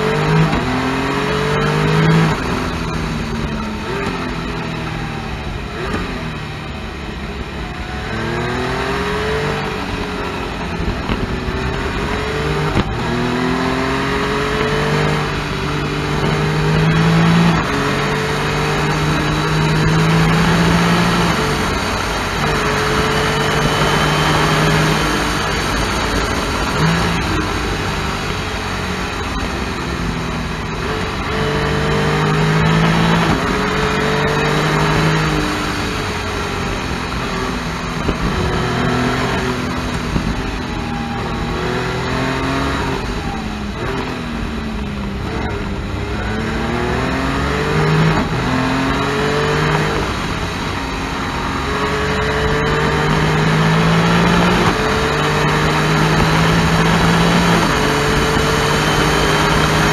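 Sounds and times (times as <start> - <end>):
motorcycle engine revving: 0.0 - 59.9
rushing wind and road noise: 0.0 - 59.9.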